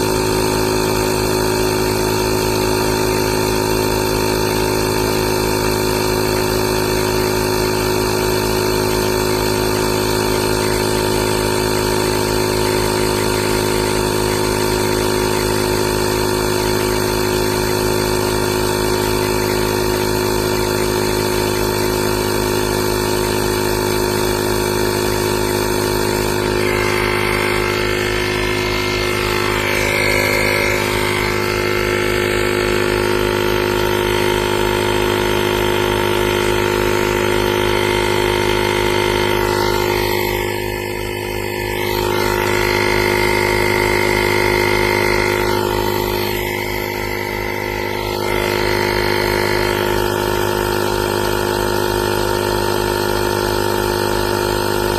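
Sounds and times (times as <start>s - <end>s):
air compressor buzzing: 0.0s - 54.9s.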